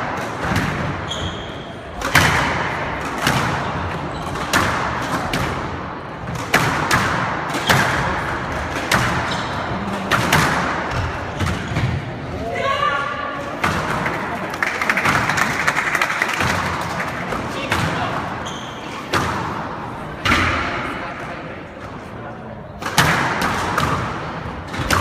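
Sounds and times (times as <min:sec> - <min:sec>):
squash ball hits echoing: 0:00.0 - 0:12.4, 0:13.4 - 0:22.0, 0:22.7 - 0:25.0.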